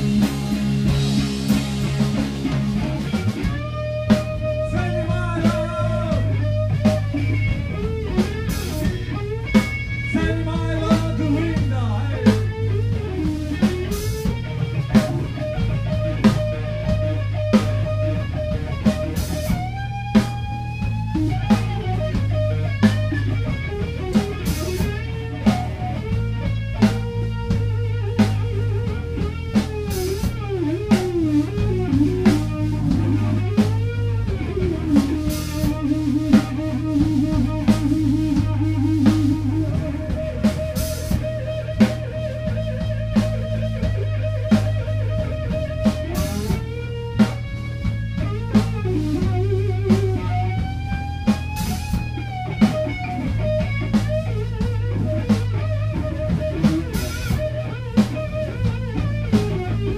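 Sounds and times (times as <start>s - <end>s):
bass guitar: 0.0s - 59.9s
drum kit with cymbal hits: 0.0s - 59.9s
electric guitar solo: 0.0s - 59.9s.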